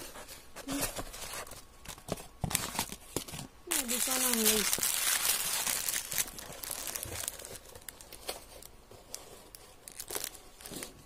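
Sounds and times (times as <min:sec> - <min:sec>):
plastic bag crinkling: 0:00.6 - 0:11.0.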